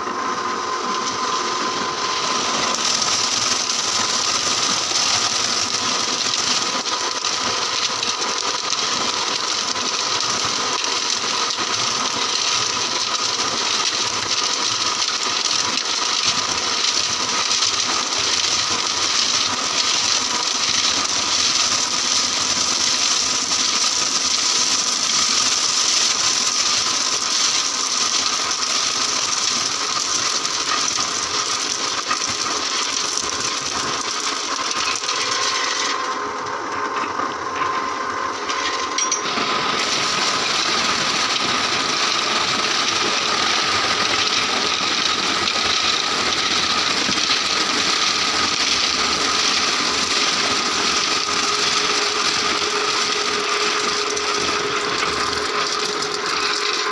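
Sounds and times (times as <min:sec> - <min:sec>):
concrete mixer whine: 0:00.0 - 0:56.9.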